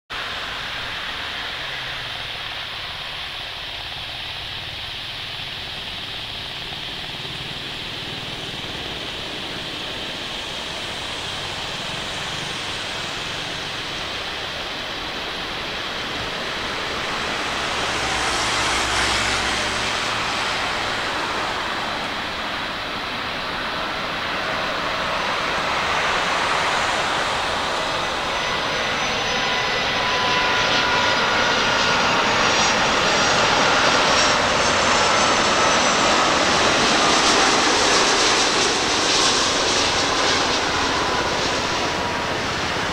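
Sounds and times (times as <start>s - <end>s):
jet airliner approaching: 0.1s - 42.9s.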